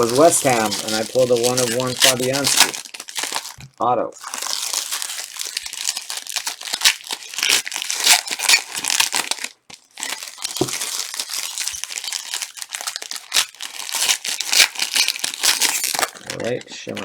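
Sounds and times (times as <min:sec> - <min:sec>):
plastic wrappers crinkling and tearing: 0:00.0 - 0:17.0.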